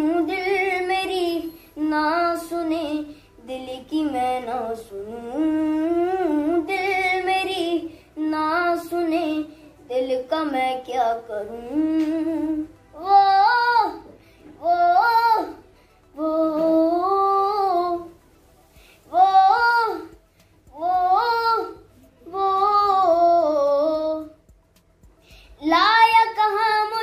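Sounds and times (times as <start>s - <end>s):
boy singing unaccompanied: 0.0s - 15.6s, 19.1s - 24.4s, 25.6s - 27.0s.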